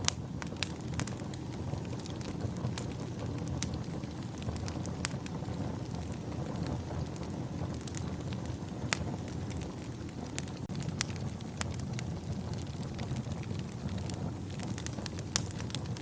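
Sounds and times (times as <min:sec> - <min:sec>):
low rumble of wind: 0:00.0 - 0:16.0
wood fire crackling and popping: 0:00.0 - 0:16.0.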